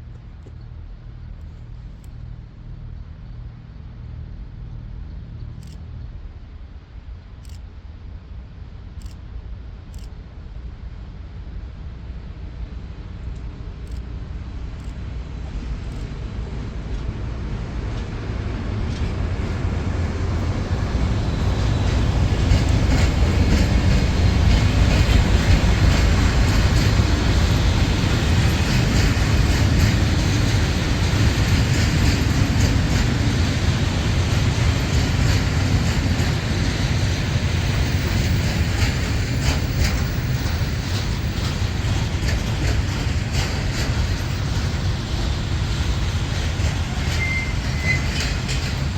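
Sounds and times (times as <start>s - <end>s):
train passing with rail noise: 0.0s - 48.9s.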